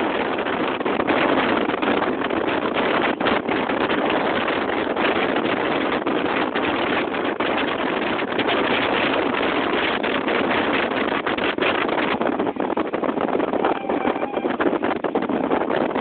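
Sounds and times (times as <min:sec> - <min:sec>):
motorboat running at speed: 0:00.0 - 0:16.0
wind on microphone: 0:00.0 - 0:16.0.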